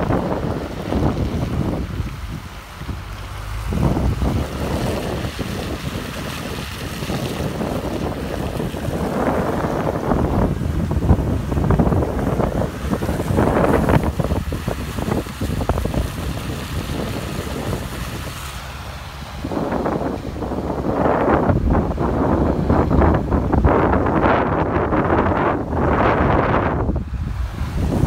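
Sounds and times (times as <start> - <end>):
car road noise: 0.0 - 28.0
wind buffeting microphone: 0.0 - 28.0.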